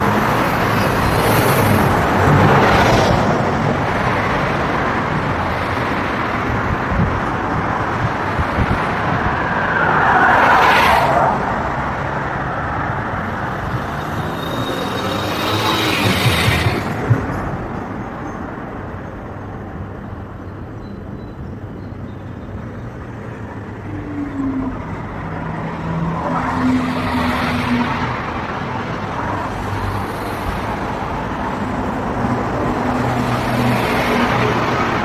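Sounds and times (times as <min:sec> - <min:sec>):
loud vehicles going by: 0:00.0 - 0:20.4, 0:21.0 - 0:35.0
road traffic passing: 0:00.0 - 0:35.0.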